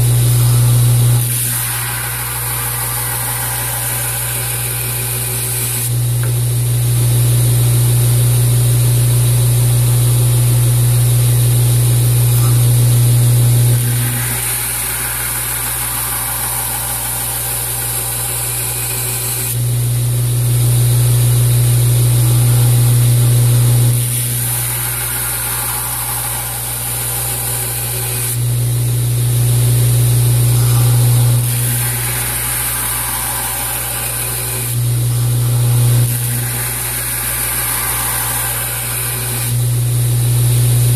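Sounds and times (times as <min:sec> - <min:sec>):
belt grinder motor hum: 0:00.0 - 0:06.9, 0:09.9 - 0:40.9.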